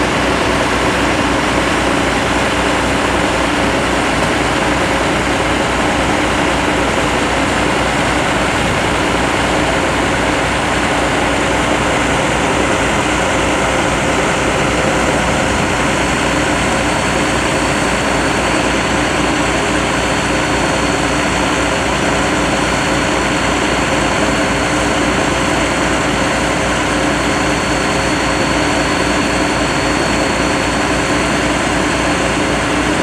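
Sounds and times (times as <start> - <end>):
engine droning: 0.0 - 32.4.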